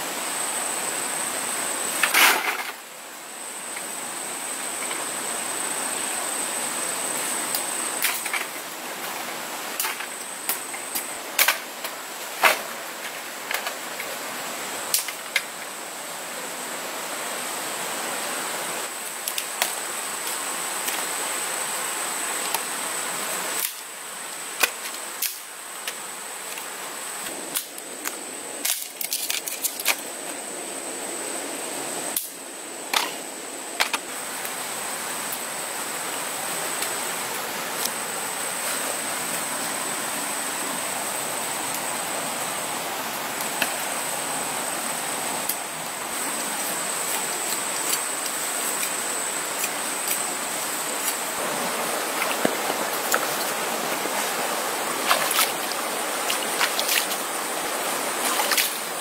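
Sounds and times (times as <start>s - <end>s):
high insect drone: 0.0s - 59.0s
rushing hiss: 0.0s - 59.0s.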